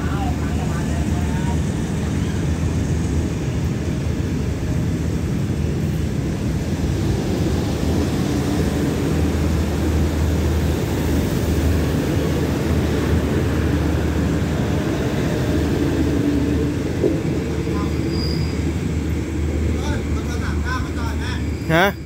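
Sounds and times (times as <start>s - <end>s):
train wheels rumbling on rails: 0.0s - 21.7s.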